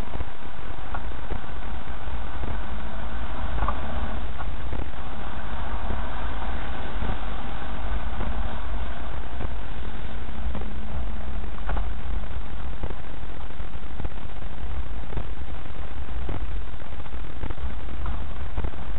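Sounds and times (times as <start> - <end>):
knocks and rattles over bumps: 0.0 - 18.9
vehicle engine and tyres rumbling: 0.0 - 18.9.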